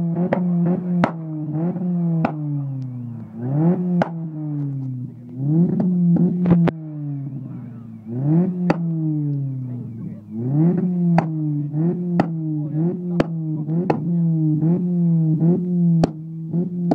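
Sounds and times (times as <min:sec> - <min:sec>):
car engine revving: 0:00.0 - 0:16.9
exhaust backfire bangs: 0:00.0 - 0:16.9.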